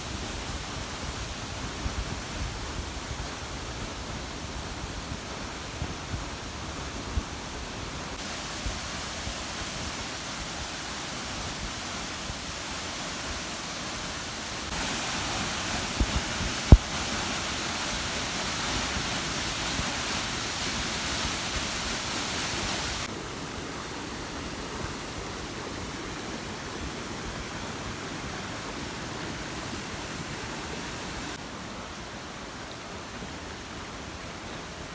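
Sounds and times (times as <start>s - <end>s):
waterfall rushing: 3.2s - 34.9s.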